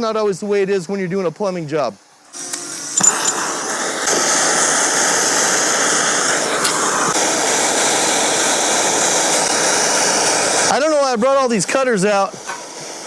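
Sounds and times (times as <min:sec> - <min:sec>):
propane torch burning: 0:02.3 - 0:13.0.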